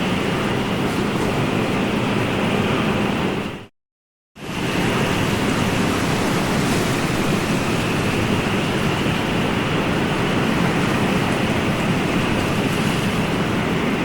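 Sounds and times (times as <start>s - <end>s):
ocean surf rushing: 0.0s - 3.7s, 4.4s - 14.0s.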